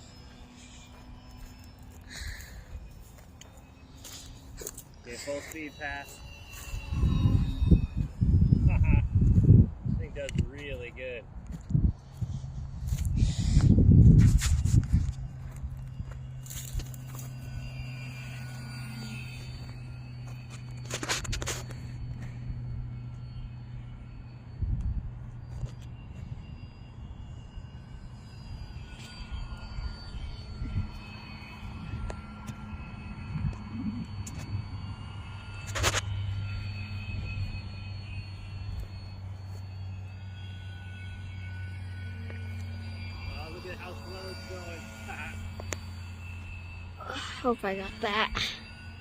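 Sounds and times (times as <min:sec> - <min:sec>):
model airplane motor whine: 0:00.0 - 0:49.0.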